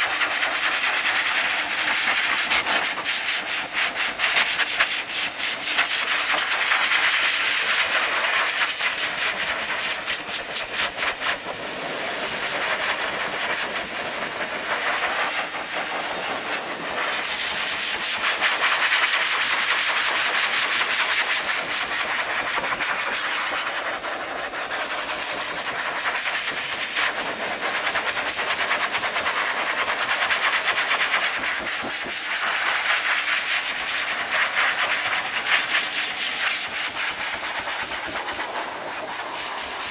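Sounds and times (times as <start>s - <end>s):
dryer blowing air: 0.0s - 39.9s.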